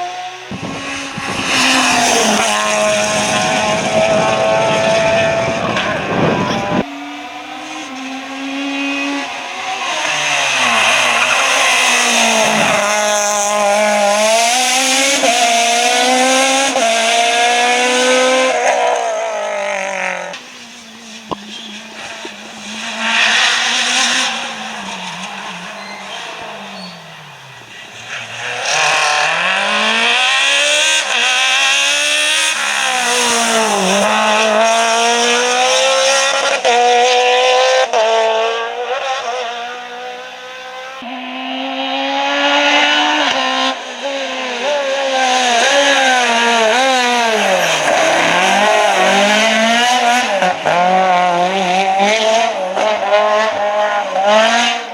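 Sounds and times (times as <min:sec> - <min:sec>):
cars passing loudly: 0:00.0 - 0:54.9
rally car engines at high revs: 0:00.0 - 0:54.9.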